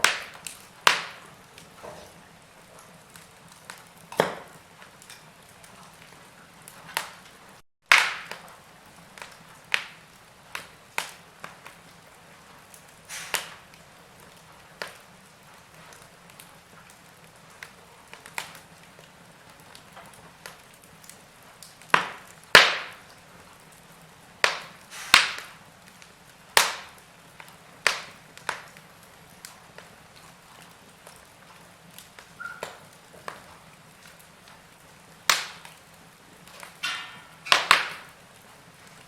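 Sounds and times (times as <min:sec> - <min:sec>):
log fire crackling: 0:00.0 - 0:39.0.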